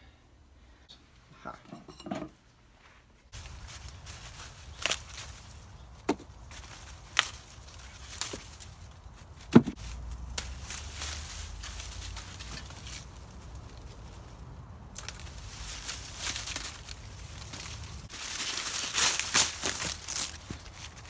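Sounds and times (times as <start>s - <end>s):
dry husks and leaves rustling: 3.3s - 21.0s
sharp cracks of plant stalks: 3.4s - 21.0s.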